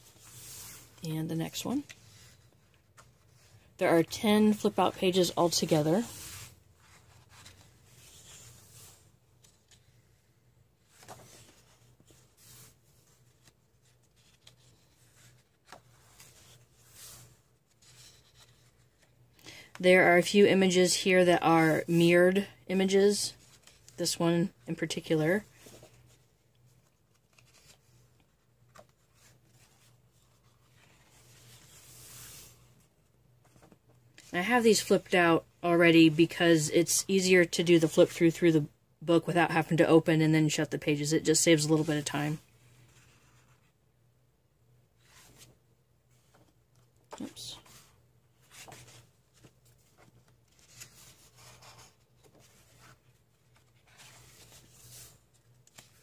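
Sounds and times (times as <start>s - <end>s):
faint paper rustling: 0.0s - 19.8s, 23.3s - 36.4s, 41.5s - 43.8s, 44.9s - 56.0s.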